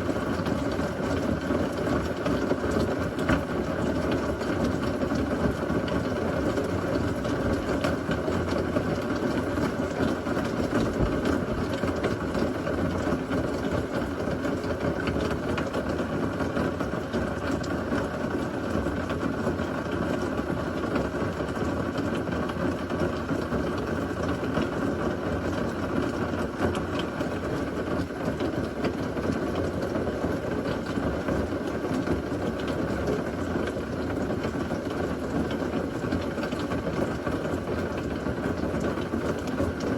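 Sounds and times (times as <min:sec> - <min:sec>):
steady heavy rain: 0:00.0 - 0:39.9.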